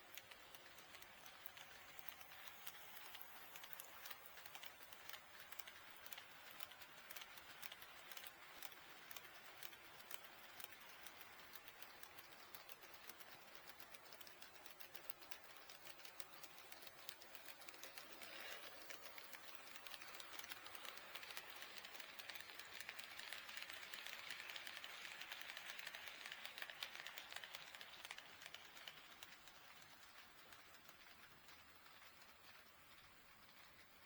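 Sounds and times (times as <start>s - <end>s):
model train wheels clicking: 0.0s - 34.0s.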